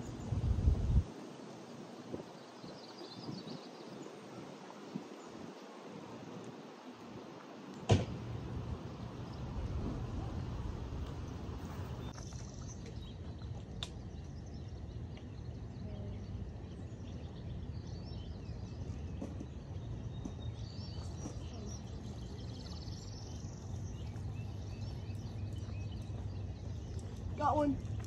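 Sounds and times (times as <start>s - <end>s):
wind rumble on microphone: 0.0s - 28.0s
birds chirping faintly: 1.4s - 28.0s.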